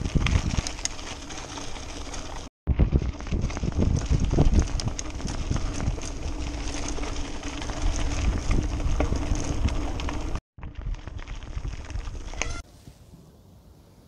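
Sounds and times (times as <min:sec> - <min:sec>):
bicycle rattling: 0:00.0 - 0:12.6
bicycle tyres crunching on gravel: 0:00.0 - 0:13.1
low wind rumble on microphone: 0:00.0 - 0:14.0.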